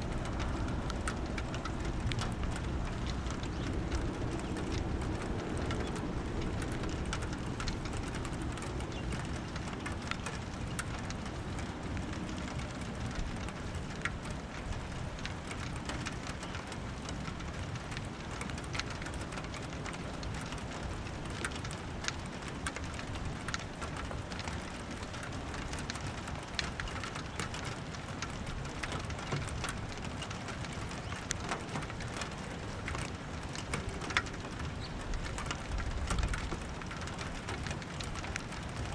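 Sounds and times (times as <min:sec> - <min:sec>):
rain drops on hard surface: 0:00.0 - 0:38.9.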